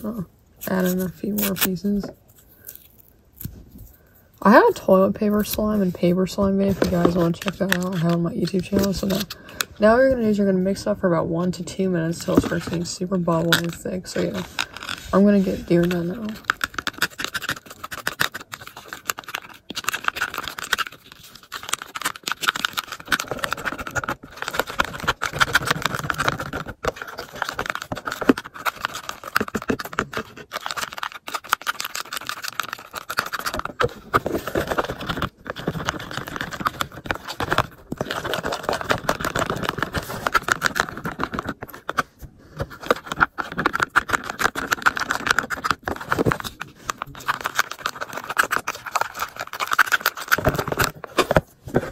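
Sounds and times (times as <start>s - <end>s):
plastic stick scraping plastic tub: 0.0s - 2.8s, 4.4s - 10.9s, 11.5s - 51.9s.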